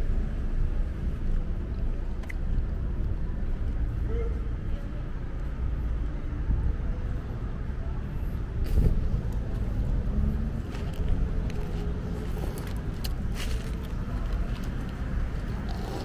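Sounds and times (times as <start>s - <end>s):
cars driving by: 0.0s - 16.0s.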